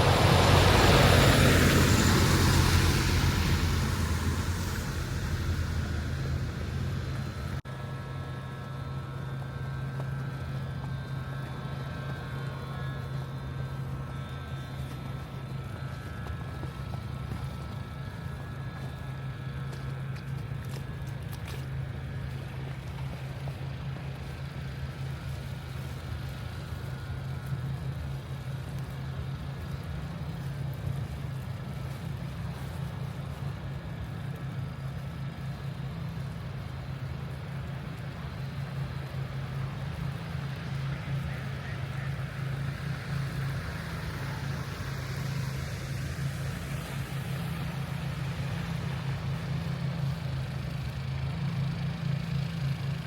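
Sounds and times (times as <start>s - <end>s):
low rumble of vehicles: 0.0s - 53.0s.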